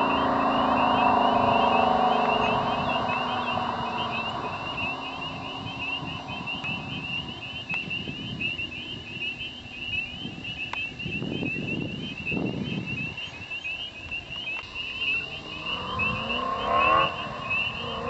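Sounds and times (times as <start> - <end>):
car engine pulling away: 0.0 - 10.8, 11.4 - 18.0
high-pitched chirping chorus: 0.0 - 18.0.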